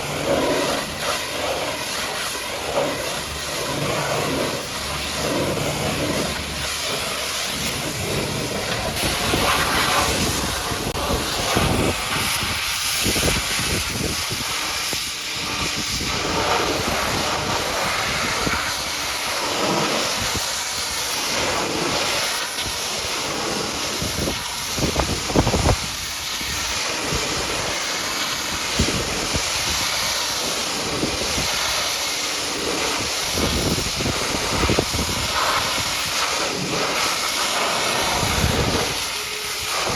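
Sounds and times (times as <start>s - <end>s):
pressure washer spraying: 0.0s - 39.9s.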